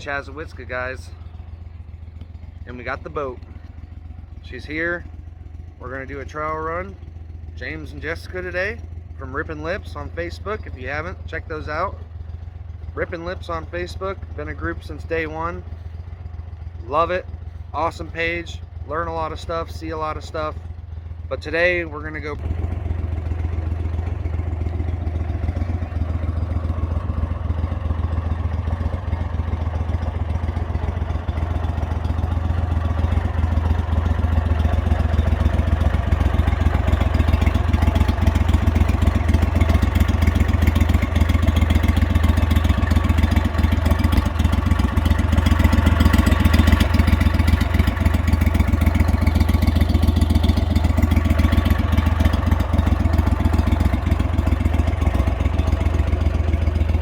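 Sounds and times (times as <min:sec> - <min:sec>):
mud motor idling: 0:00.0 - 0:57.0.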